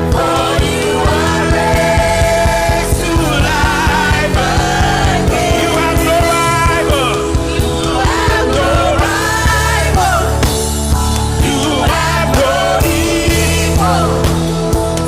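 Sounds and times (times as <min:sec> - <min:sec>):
voices singing: 0:00.0 - 0:14.8
band with drums and bass: 0:00.0 - 0:15.0.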